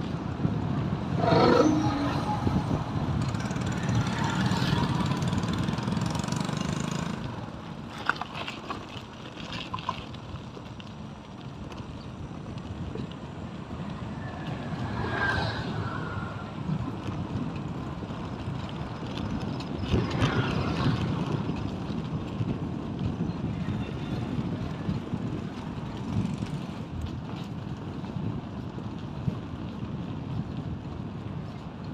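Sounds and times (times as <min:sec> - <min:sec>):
road vehicle rumble: 0:00.0 - 0:31.9
vehicles passing close by: 0:00.0 - 0:31.9.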